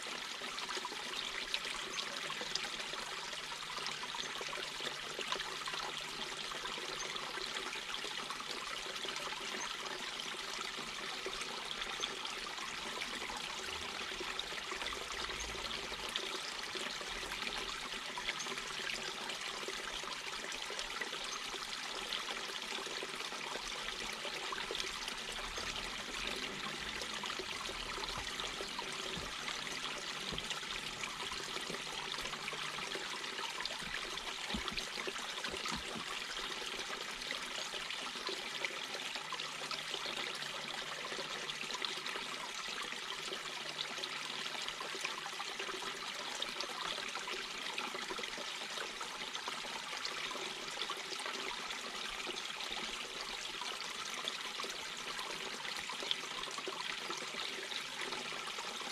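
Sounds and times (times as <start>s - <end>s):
brook babbling over rocks: 0.0s - 58.9s.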